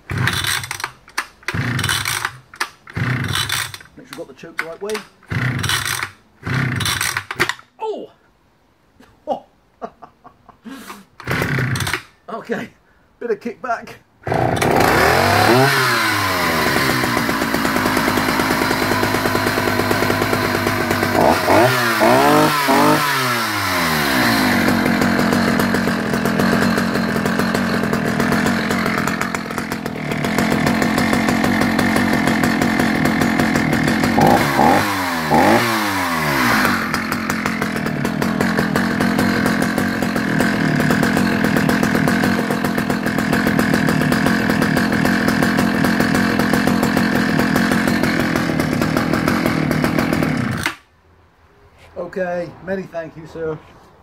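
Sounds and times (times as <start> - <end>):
chainsaw starting and revving: 0.0 - 7.7, 10.7 - 12.2, 14.2 - 50.9.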